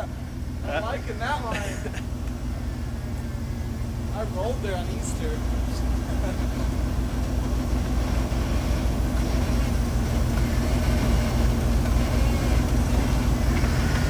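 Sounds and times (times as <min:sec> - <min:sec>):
truck engine idling low: 0:00.0 - 0:14.0.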